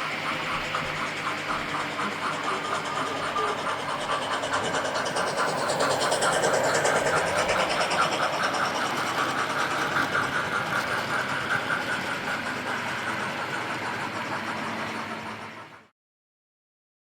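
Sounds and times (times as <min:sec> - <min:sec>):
model train wheel and motor noise: 0:00.0 - 0:15.9
rhythmic steam chuff: 0:00.0 - 0:15.9.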